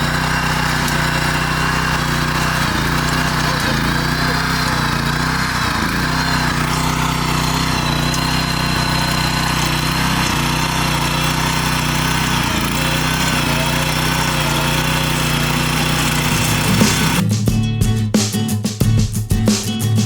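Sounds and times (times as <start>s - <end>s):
single-cylinder engine running steadily: 0.0s - 17.2s.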